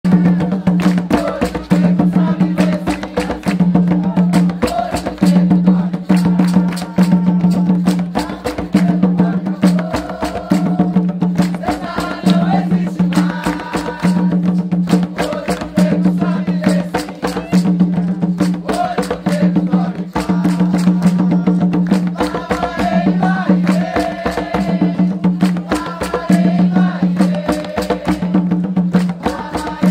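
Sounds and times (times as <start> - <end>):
group singing: 0.1 - 29.9
hand drums beating fast: 0.1 - 29.9.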